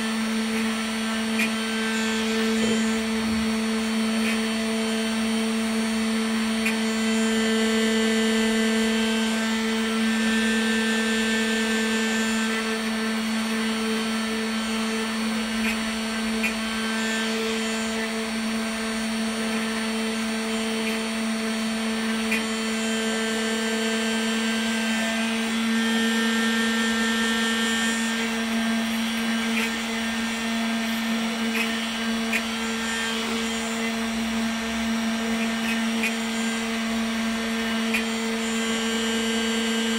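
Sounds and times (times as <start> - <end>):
router spindle motor whine: 0.0 - 39.9.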